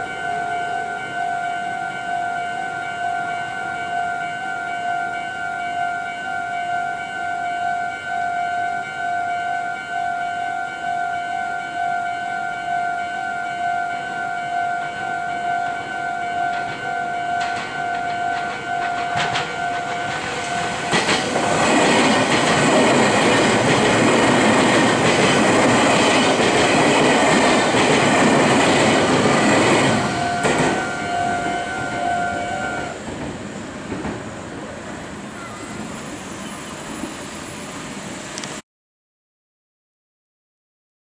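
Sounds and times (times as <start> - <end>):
electric train passing: 0.0 - 38.6.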